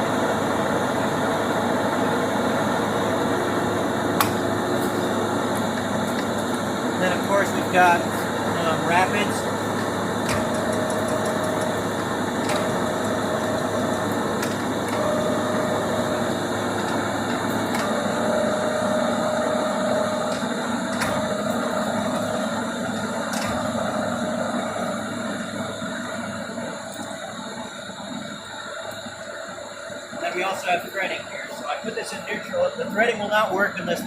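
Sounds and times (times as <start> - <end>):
lathe carriage whine: 0.0 - 34.0
lathe gear noise: 0.4 - 34.0.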